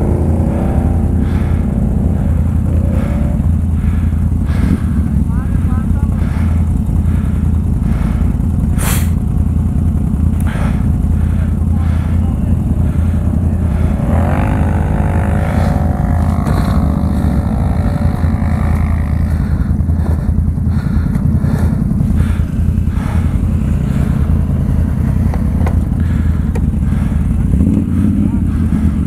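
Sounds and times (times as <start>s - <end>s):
atv engine rumbling: 0.0s - 29.0s.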